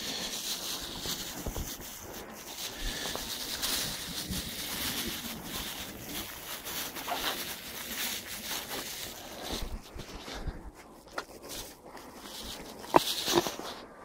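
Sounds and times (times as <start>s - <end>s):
horses snuffling and breathing: 0.0s - 14.0s
rustling: 0.0s - 14.0s.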